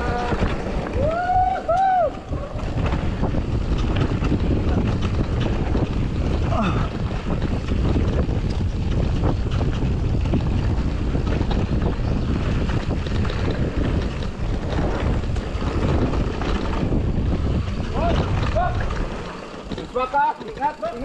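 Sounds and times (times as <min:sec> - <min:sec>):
bike knocks and rattles: 0:00.0 - 0:21.0
tyres rolling over dirt and rock: 0:00.0 - 0:21.0
wind buffeting microphone: 0:00.0 - 0:21.0.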